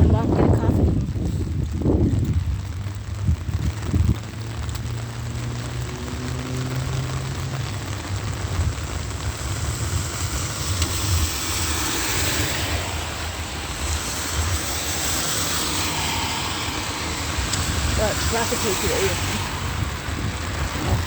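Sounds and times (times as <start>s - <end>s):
tyres hissing on wet pavement: 0.0s - 21.0s.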